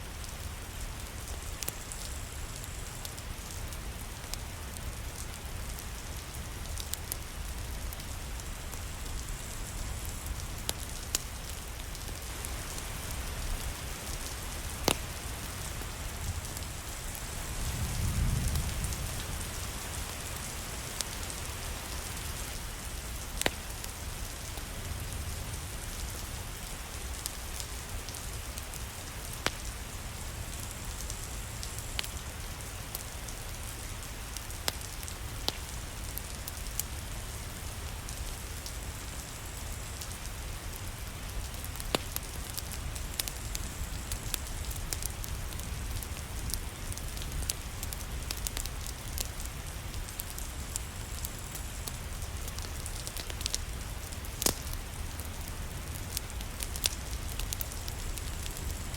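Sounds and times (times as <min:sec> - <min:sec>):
steady rain: 0:00.0 - 0:58.9
wood fire popping: 0:00.2 - 0:25.3, 0:26.0 - 0:58.9.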